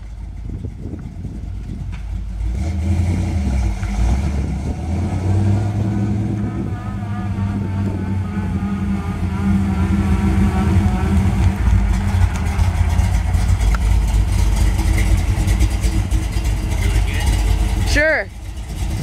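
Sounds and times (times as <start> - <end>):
pickup truck engine passing by: 0.0 - 19.0.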